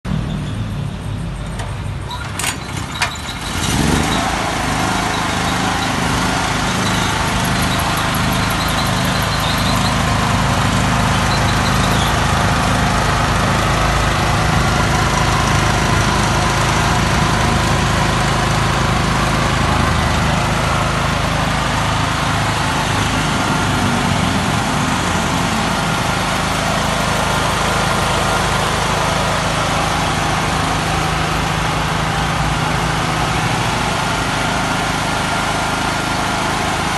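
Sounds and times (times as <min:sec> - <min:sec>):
petrol generator engine running: 0:00.1 - 0:36.9.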